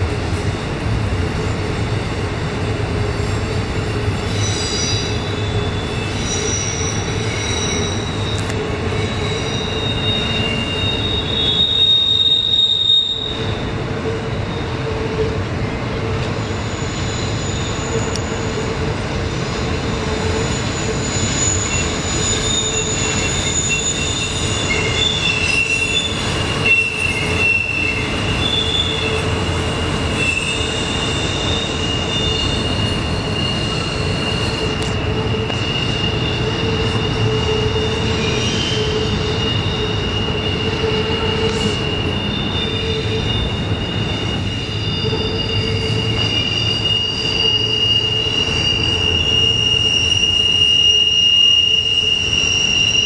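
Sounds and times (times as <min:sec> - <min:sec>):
wheel flanges squealing: 0:00.0 - 0:53.0
wheels rumbling on rail: 0:00.0 - 0:53.0.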